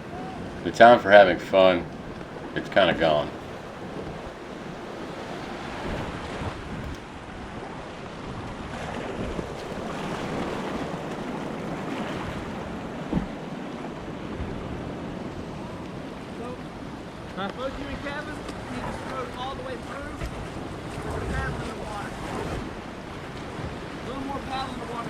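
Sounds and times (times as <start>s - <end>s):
rushing whitewater: 0.0s - 25.0s
wind buffeting microphone: 0.0s - 25.0s.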